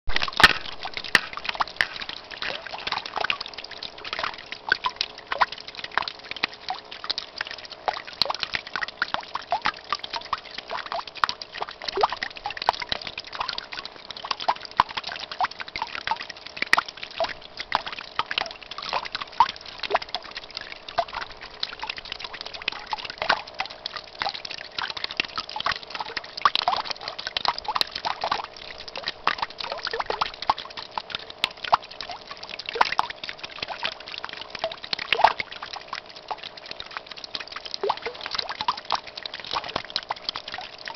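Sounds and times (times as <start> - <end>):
faint steady hum: 0.1 - 40.9
fountain water splashing and dripping: 0.1 - 40.9.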